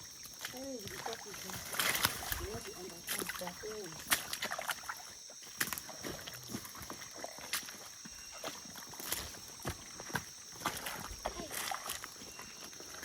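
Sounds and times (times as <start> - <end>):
footsteps through undergrowth: 0.2 - 13.0.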